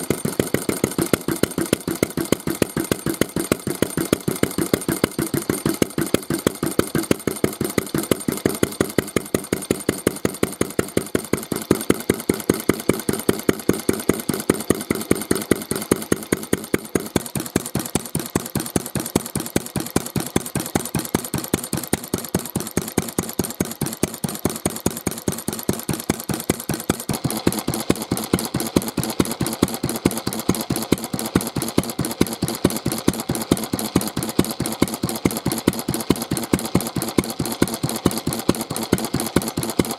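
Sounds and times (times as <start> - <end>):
stationary engine idling: 0.0 - 39.9.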